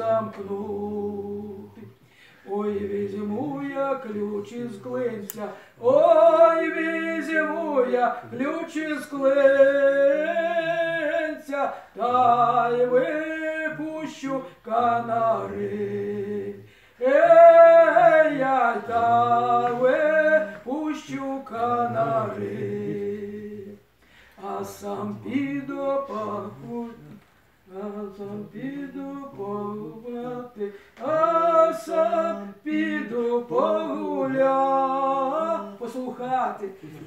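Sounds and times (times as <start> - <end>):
elderly man singing unaccompanied: 0.0 - 37.0.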